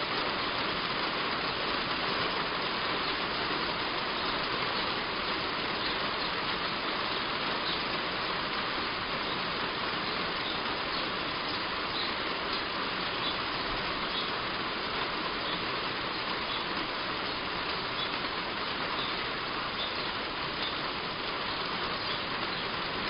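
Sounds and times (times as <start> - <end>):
heavy rain on a roof: 0.0 - 23.0.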